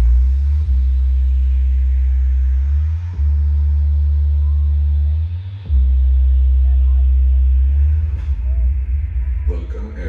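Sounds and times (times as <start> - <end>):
deep bass tone through speakers: 0.0 - 10.0.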